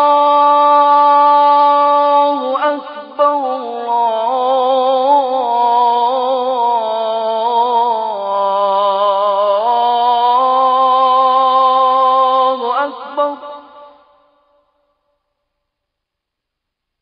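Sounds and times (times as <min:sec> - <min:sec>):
man chanting call to prayer: 0:00.0 - 0:14.2.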